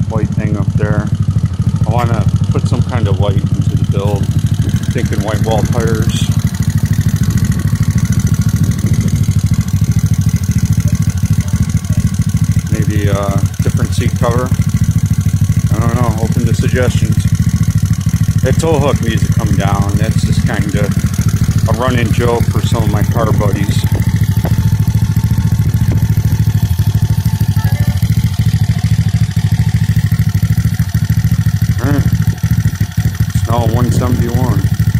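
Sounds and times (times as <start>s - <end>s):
scooter engine idling: 0.0s - 34.9s.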